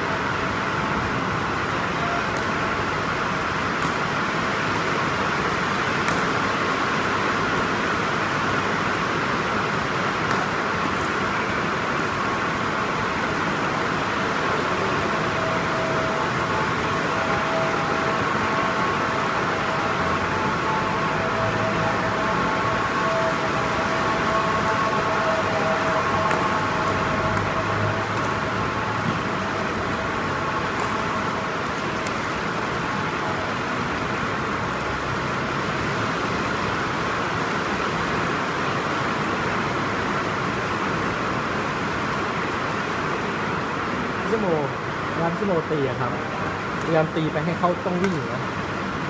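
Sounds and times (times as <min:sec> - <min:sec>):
faint hum: 0:00.0 - 0:49.0
rushing background noise: 0:00.0 - 0:49.0.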